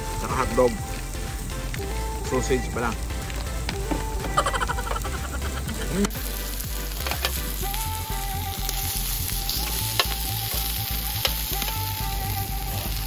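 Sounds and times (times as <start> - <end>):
meat sizzling on a grill pan: 0.0 - 13.0.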